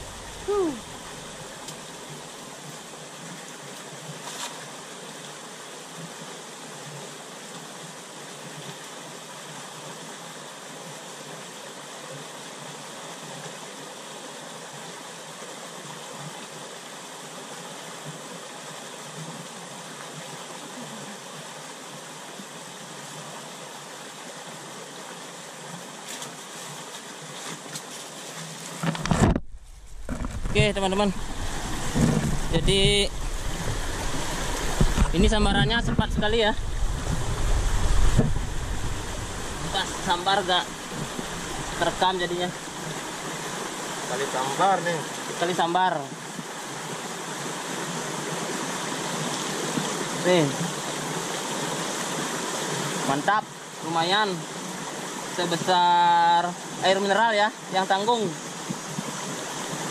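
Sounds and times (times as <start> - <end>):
stream rushing over rapids: 0.0 - 59.9.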